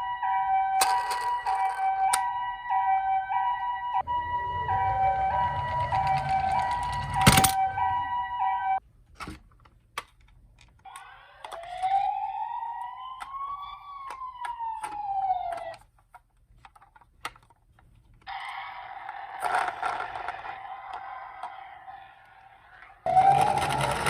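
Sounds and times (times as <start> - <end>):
multi-tone siren: 0.0 - 8.8, 10.9 - 15.9, 18.3 - 24.0
toy electronic siren wailing: 0.0 - 8.8, 10.8 - 15.9, 18.3 - 24.0.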